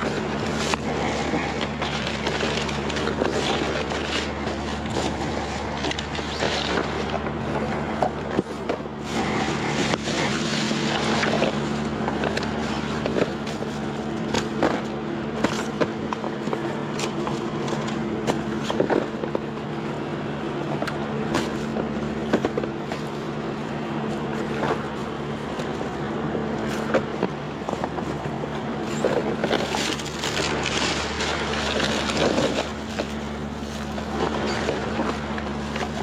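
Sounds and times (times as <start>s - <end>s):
rummaging through trash: 0.0s - 7.3s, 8.0s - 36.0s
low machine hum: 0.0s - 36.0s.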